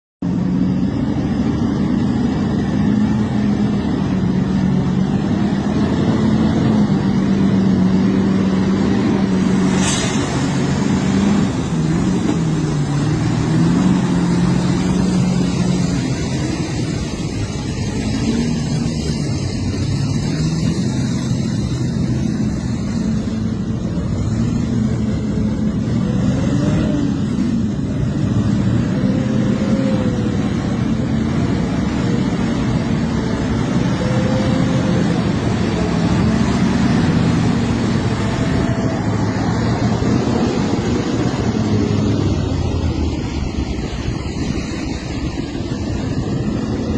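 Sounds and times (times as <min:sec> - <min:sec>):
road and wind noise: 0:00.2 - 0:46.9
vehicle engine running: 0:00.2 - 0:46.9.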